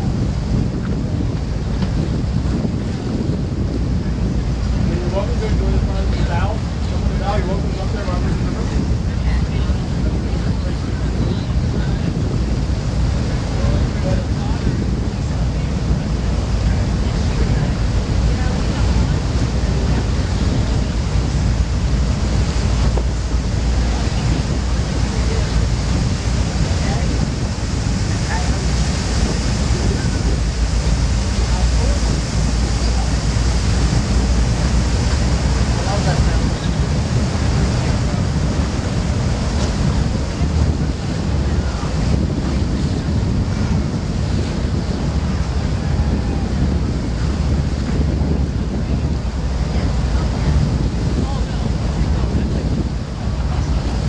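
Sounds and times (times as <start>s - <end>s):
water rushing along hull: 0.0s - 54.0s
wind rumble on microphone: 0.0s - 54.0s.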